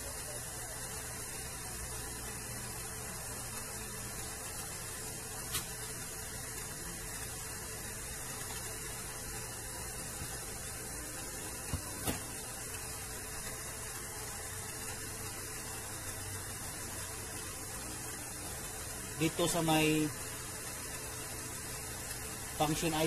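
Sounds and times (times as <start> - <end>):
electrical hiss: 0.0 - 23.0
low mains hum: 0.0 - 23.0.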